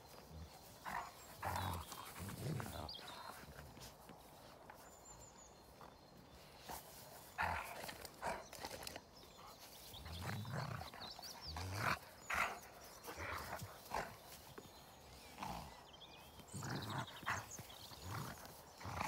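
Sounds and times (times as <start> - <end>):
dogs growling and snarling: 0.0 - 19.0.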